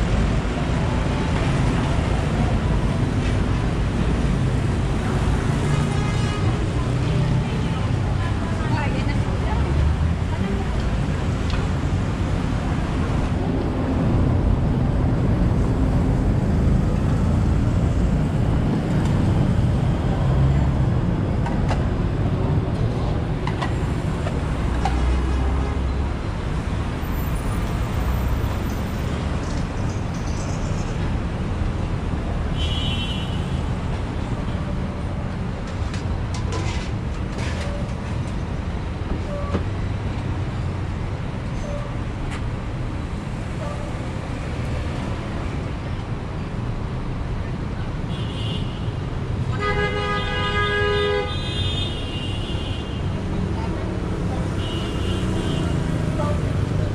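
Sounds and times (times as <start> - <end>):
city street traffic: 0.0 - 56.9.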